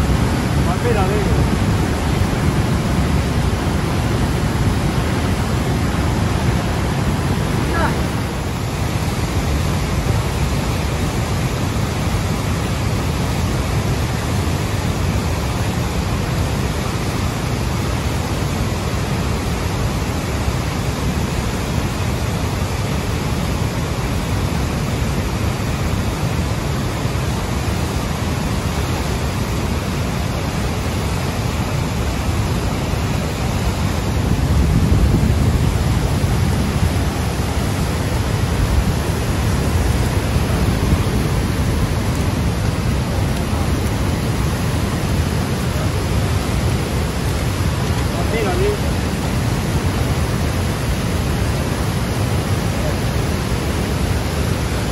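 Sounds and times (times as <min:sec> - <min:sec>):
churning whitewater rushing: 0:00.0 - 0:54.9.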